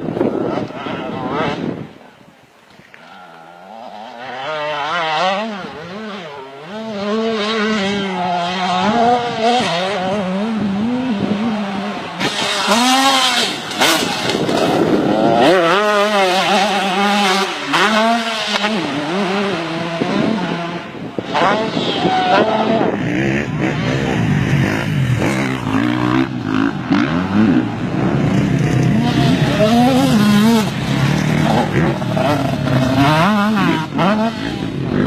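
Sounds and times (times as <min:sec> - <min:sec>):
two-stroke dirt bike engine revving: 0:00.0 - 0:02.0, 0:03.3 - 0:35.0.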